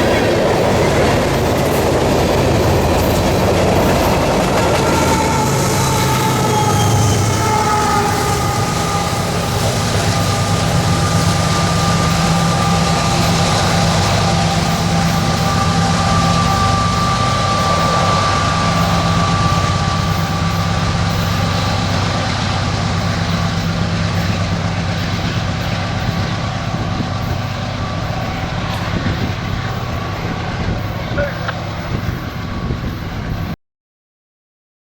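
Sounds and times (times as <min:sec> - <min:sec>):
high whine: 0:00.0 - 0:33.6
locomotive engine rumble: 0:00.0 - 0:33.6
rolling train cars: 0:00.0 - 0:33.6.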